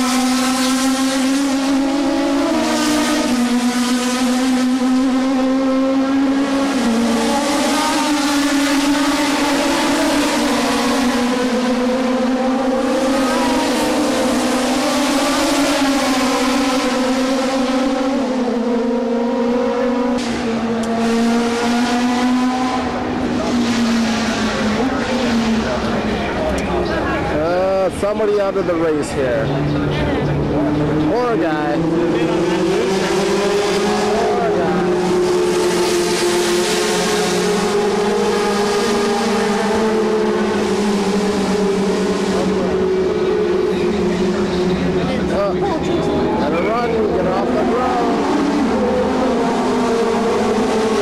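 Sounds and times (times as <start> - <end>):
race car engines droning: 0.0 - 51.0.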